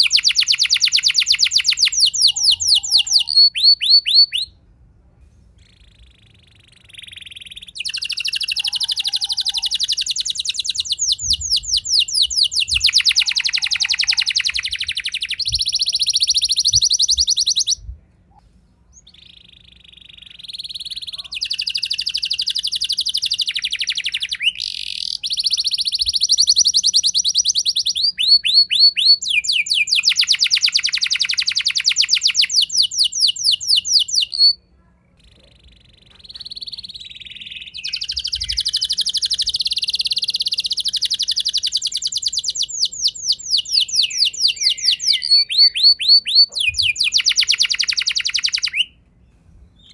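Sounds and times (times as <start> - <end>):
canary singing rolling trills: 0.0 - 4.6, 5.6 - 17.8, 18.9 - 34.6, 35.2 - 49.9.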